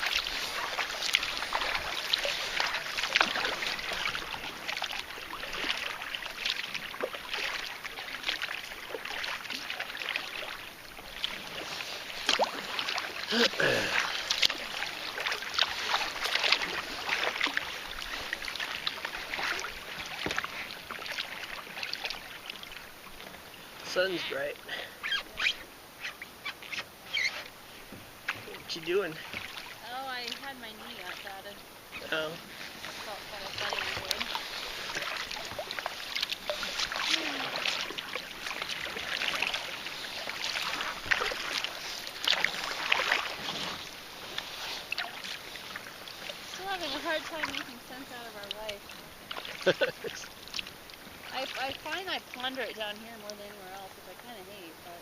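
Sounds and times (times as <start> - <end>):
kayak paddle strokes in water: 0.0 - 55.0.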